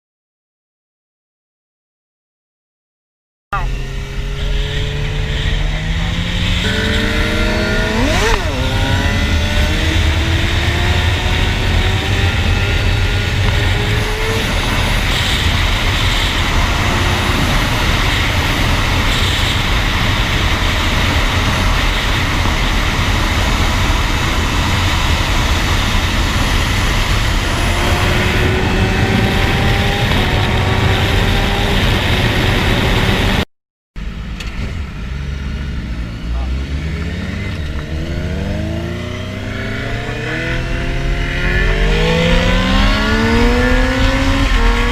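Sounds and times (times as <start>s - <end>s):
motorcycle accelerating through gears: 3.6s - 33.4s, 34.0s - 44.9s
second engine passing: 3.6s - 33.4s, 34.0s - 44.9s
wind on microphone: 4.3s - 33.4s, 37.2s - 44.9s.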